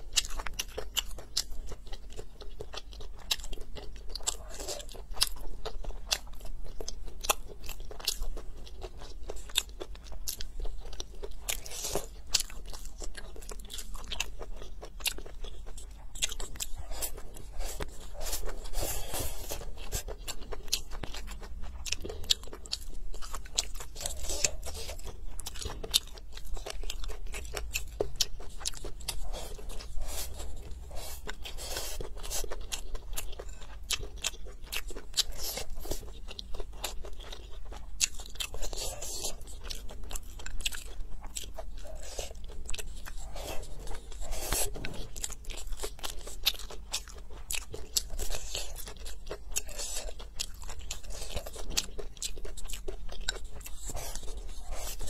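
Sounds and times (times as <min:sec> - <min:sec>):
crunchy food chewing: 0:00.0 - 0:55.0
wet chewing: 0:00.0 - 0:55.0.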